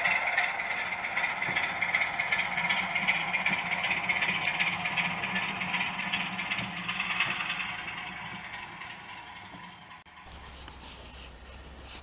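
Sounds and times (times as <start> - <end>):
model train running on track: 0.0 - 10.3.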